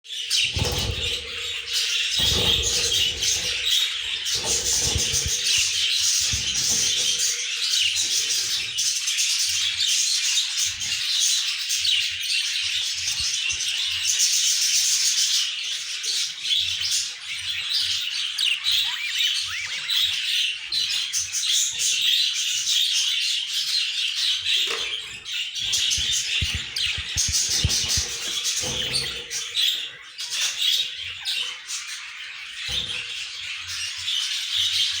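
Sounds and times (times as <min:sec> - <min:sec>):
budgies chirping and chattering: 0:00.1 - 0:35.0.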